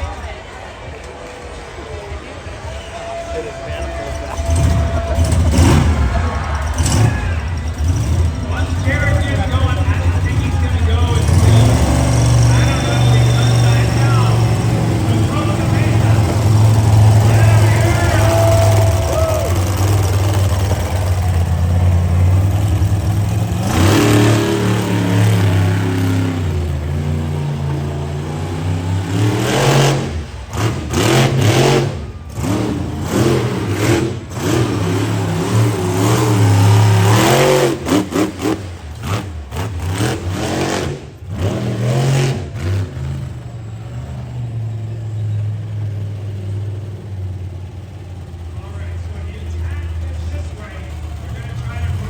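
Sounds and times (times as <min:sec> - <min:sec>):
monster truck engine revving: 0:00.0 - 0:52.0.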